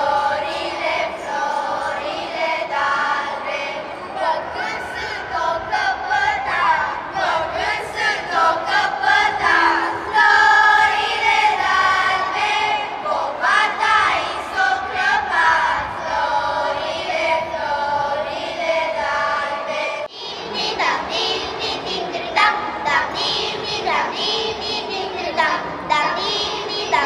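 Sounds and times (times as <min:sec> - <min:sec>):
children singing: 0:00.0 - 0:27.0.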